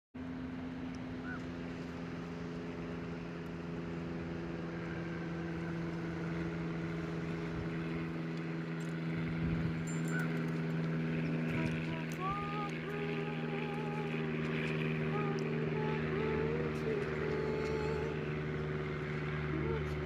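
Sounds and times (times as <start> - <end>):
moving vehicle hum: 0.2 - 20.0
road noise: 0.2 - 20.0.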